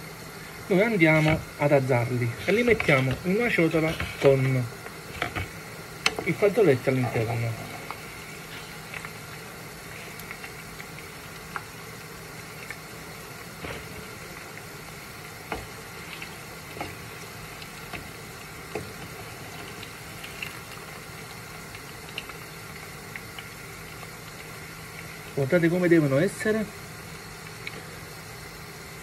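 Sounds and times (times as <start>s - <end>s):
peppers sizzling in oil: 0.0s - 29.0s
oil popping and crackling: 0.5s - 29.0s.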